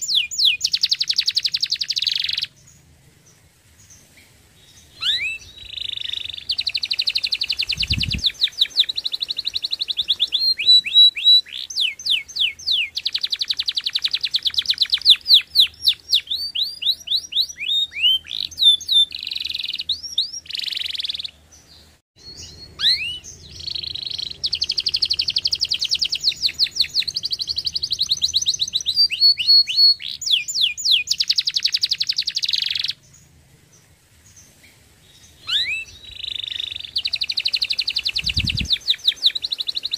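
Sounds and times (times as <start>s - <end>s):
canary singing: 0.0s - 2.8s, 4.6s - 33.1s, 35.1s - 39.9s.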